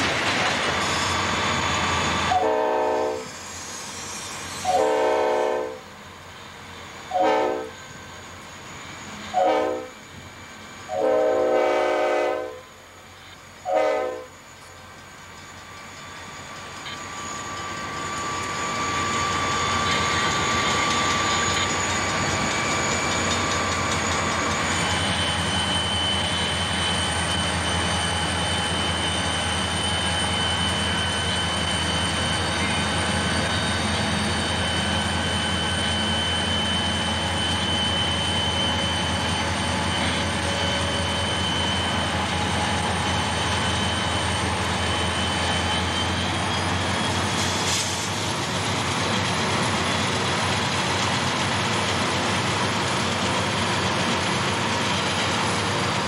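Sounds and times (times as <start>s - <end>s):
diesel locomotives rumbling: 0.0s - 56.0s
high-pitched whines: 3.2s - 5.0s, 5.8s - 11.5s, 12.6s - 56.0s.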